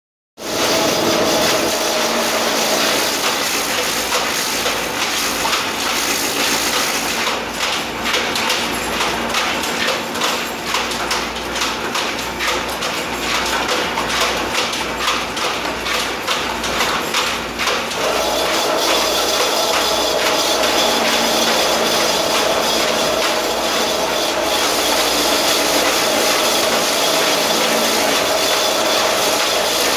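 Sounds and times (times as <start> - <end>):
machine clattering and humming: 0.4 - 29.9.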